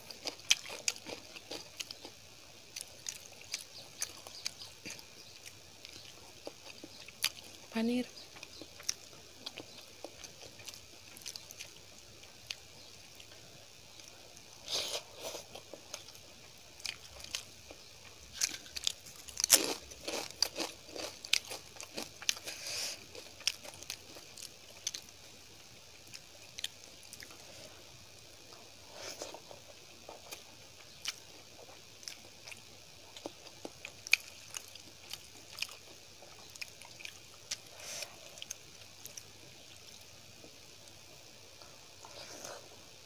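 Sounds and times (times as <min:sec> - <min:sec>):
chewing with crisp crunches: 0:00.0 - 0:43.0.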